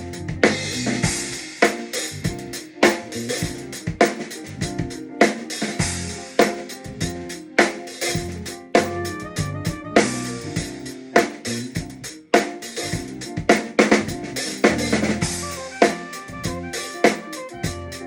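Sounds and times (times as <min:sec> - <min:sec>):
snare and bass drum hits: 0:00.4 - 0:18.0.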